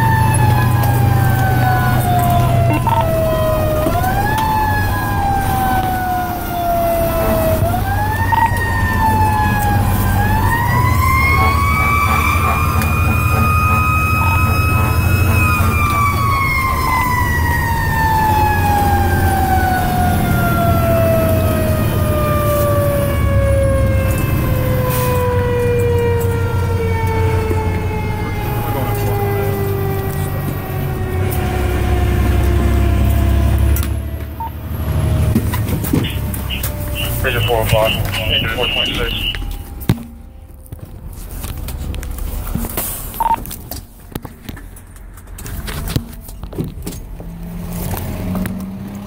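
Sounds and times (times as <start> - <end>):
fire engine siren wailing: 0.0 - 49.0
truck engine rumbling: 0.0 - 49.0.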